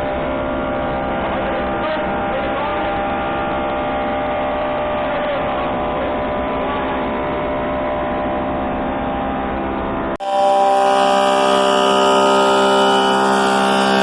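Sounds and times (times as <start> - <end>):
planer high whine: 0.0 - 14.0
thickness planer droning: 0.0 - 14.0.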